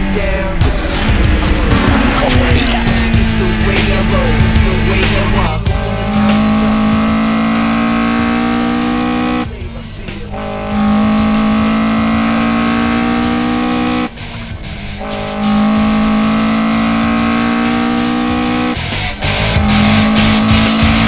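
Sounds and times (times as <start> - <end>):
car engine at high revs: 0.0 - 21.0.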